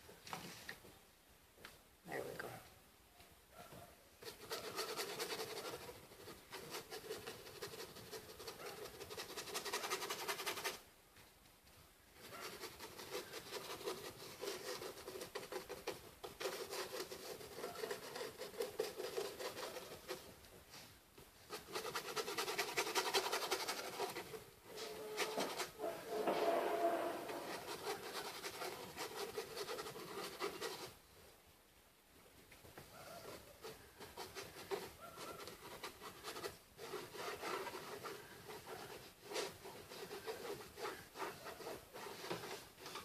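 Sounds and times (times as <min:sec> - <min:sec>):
paintbrush scrubbing cardboard: 0:04.2 - 0:10.8, 0:12.2 - 0:31.0, 0:32.7 - 0:43.0.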